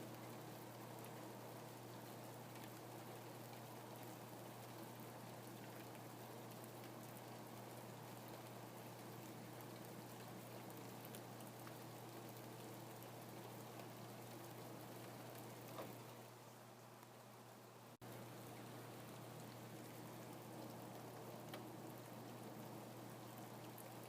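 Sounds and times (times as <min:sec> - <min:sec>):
faint steady rain: 0:00.0 - 0:24.0.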